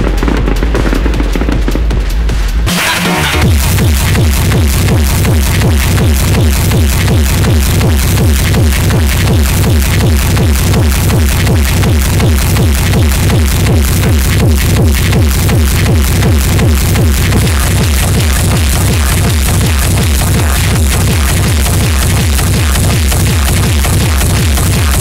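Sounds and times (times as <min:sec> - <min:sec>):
techno music with kick drum: 0:00.0 - 0:25.0.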